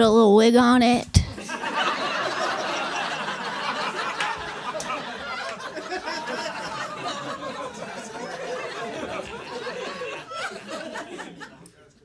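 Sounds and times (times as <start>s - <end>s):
audience laughing: 1.4s - 12.0s.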